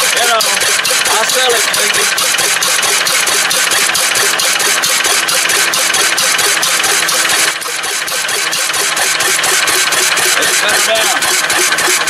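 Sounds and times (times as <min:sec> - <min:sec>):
flywheel engine running: 0:00.0 - 0:12.0.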